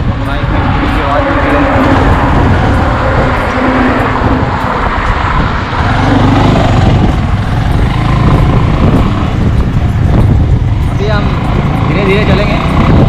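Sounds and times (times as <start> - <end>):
motorcycle engine running: 0.0 - 13.0
steady rushing noise: 0.0 - 13.0.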